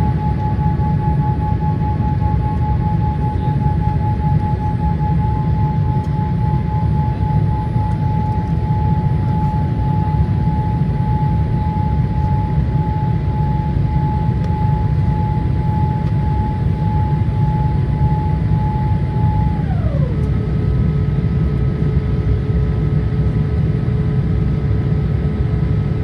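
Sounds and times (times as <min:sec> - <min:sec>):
aircraft cabin rumble: 0:00.0 - 0:26.0
high whine of aircraft systems: 0:00.0 - 0:26.0.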